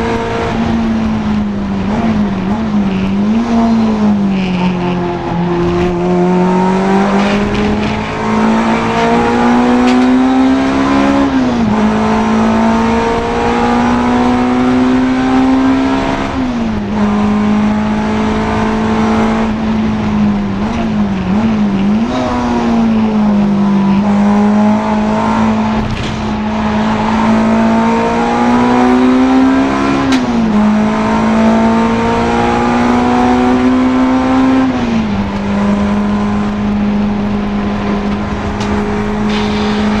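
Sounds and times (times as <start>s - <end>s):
race car engine running hard: 0.0s - 40.0s.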